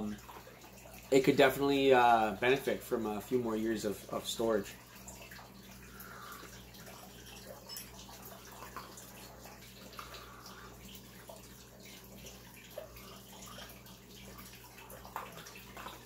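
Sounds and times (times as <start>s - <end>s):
low steady hum: 0.0s - 16.0s
water trickling from filter: 0.0s - 16.0s.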